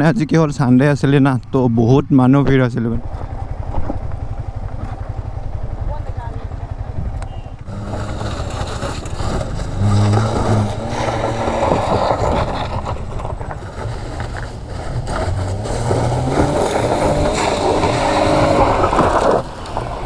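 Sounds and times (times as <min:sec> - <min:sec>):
motorcycle engine running: 0:02.8 - 0:19.9.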